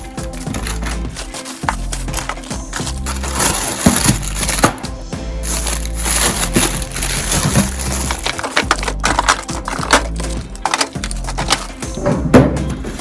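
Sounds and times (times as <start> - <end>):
plastic crinkling: 0.0 - 11.9
background music with bass: 0.0 - 13.0.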